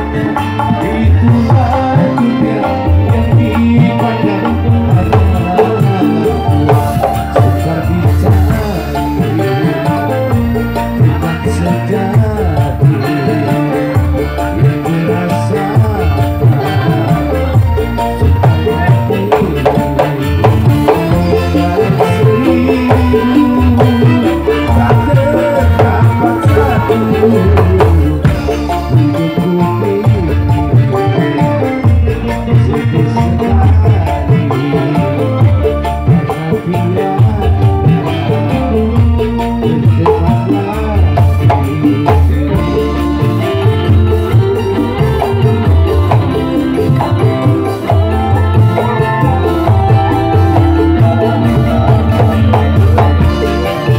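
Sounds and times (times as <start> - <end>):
band playing: 0.0 - 53.9
hand drums: 0.0 - 53.9
sustained melody line: 0.0 - 53.9.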